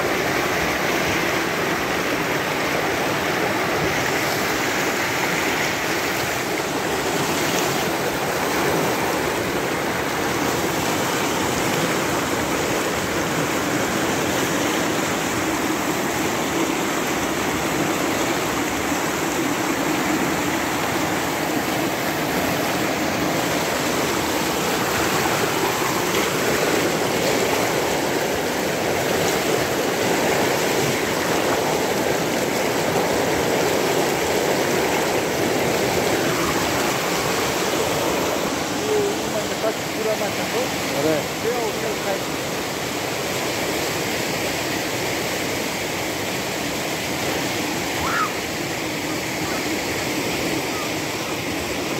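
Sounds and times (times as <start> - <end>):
flood torrent roaring: 0.0 - 51.9.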